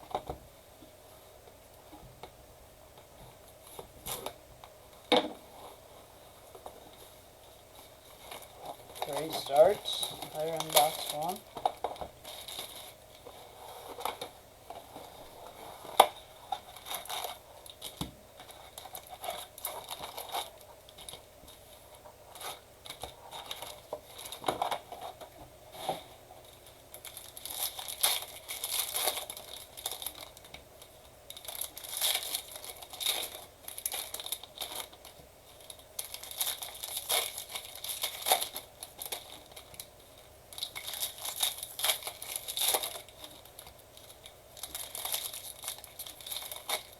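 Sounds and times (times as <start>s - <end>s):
plastic wrapping crinkling: 3.4s - 46.9s.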